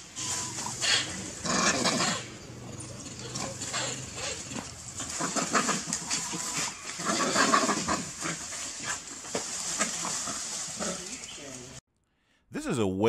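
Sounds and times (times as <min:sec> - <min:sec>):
animals scuffling: 0:00.1 - 0:11.8.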